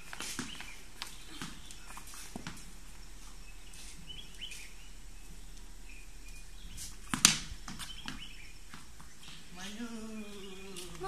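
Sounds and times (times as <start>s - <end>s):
footsteps on paving stones: 0.0s - 4.9s, 5.5s - 11.0s.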